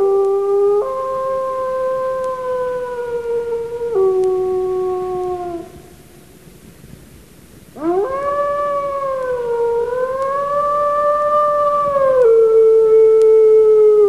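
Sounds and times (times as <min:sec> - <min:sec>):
long wavering howl: 0:00.0 - 0:06.0, 0:07.8 - 0:14.0.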